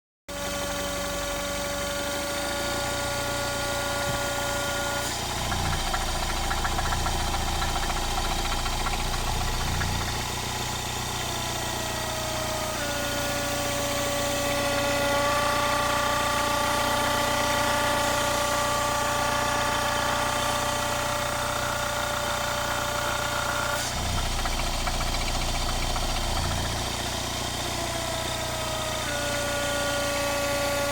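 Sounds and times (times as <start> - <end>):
car engine idling: 0.3 - 29.0.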